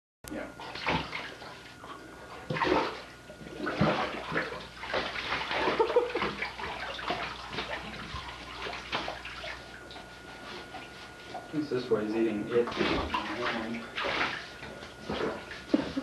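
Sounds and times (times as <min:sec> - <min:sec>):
bath water splashing: 0:00.7 - 0:11.5, 0:12.6 - 0:16.0.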